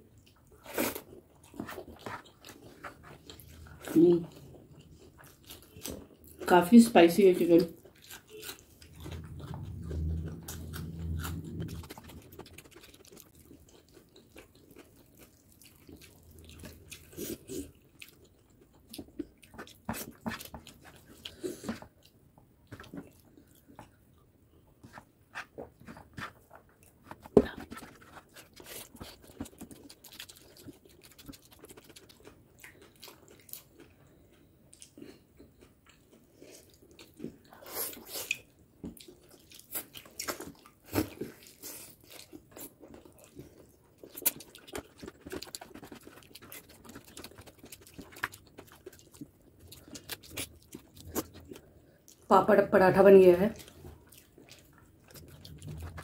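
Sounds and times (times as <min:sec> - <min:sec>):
chewing and crunchy bites: 0:00.0 - 0:06.5, 0:07.5 - 0:24.2, 0:24.9 - 0:52.3, 0:53.5 - 0:56.0.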